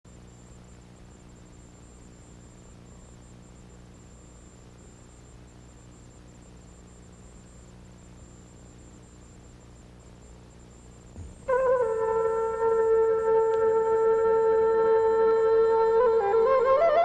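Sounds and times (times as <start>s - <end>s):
electrical hum: 0.1s - 17.0s
faint high whine: 0.1s - 17.0s.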